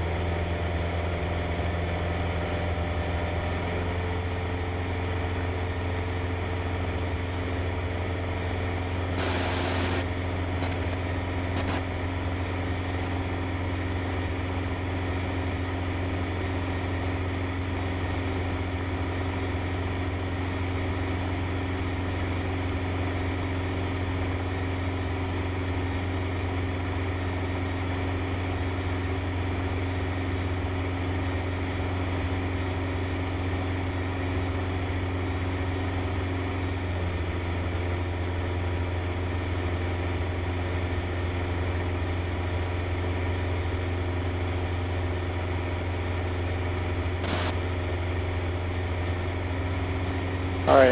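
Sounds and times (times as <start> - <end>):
plane engine and propeller droning: 0.0 - 50.9.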